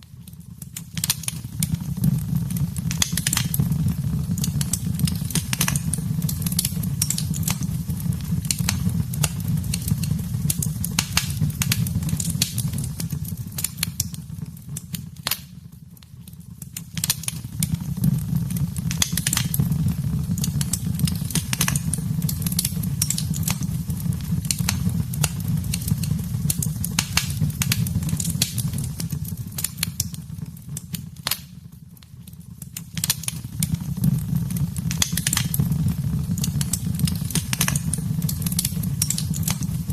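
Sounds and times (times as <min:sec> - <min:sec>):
wood fire crackling: 0:00.0 - 0:39.9
low fire rumble: 0:00.1 - 0:39.9.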